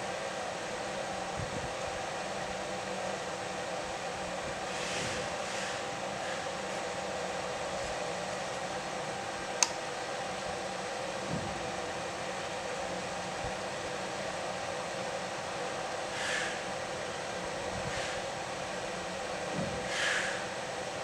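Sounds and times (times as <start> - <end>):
blower fan running: 0.0 - 21.0.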